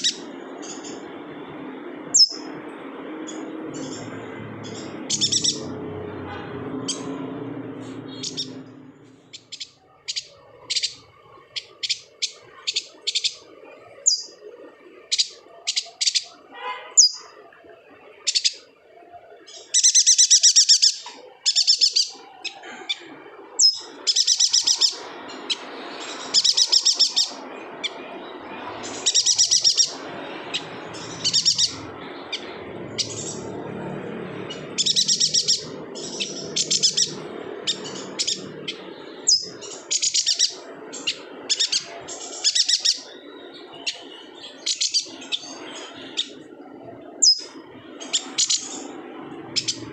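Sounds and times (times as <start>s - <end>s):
bird chirping trills: 0.0s - 49.9s
low background noise: 0.0s - 49.9s.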